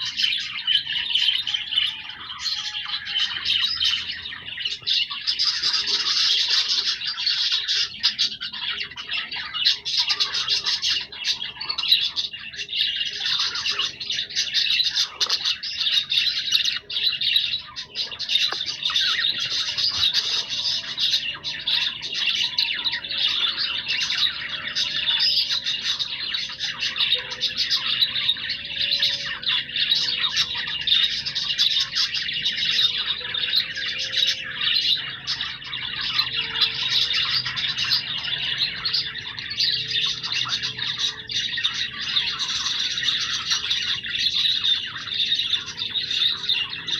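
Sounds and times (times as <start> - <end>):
budgerigars chattering and warbling: 0.0 - 46.9.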